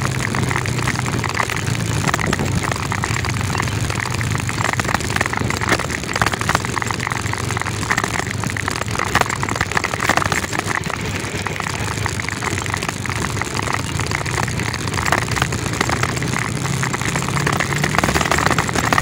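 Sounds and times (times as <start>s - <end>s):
knocks and rattles from bumps: 0.0s - 19.0s
motorcycle engine running: 0.0s - 19.0s.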